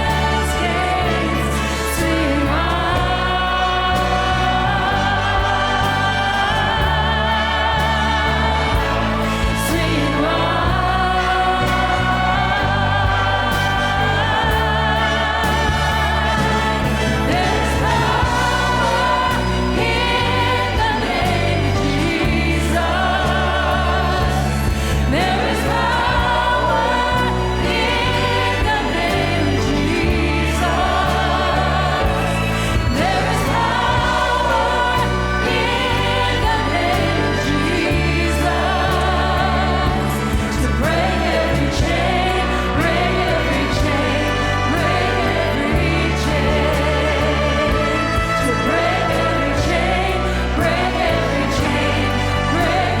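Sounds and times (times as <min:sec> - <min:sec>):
choir singing with orchestra: 0:00.0 - 0:53.0.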